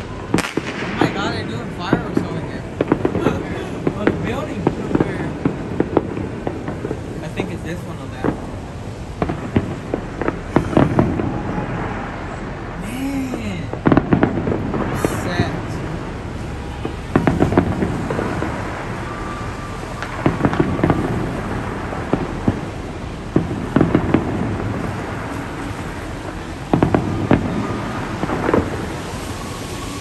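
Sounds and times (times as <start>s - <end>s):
rolling rumble of booms: 0.0s - 12.8s, 13.5s - 30.0s
fireworks sharp bangs: 0.0s - 30.0s.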